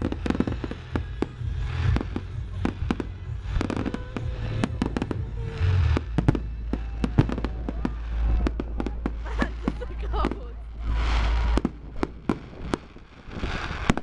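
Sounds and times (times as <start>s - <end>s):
fireworks crackling: 0.0s - 14.0s
fireworks pops and bangs: 0.0s - 14.0s
low rumble: 0.0s - 14.0s.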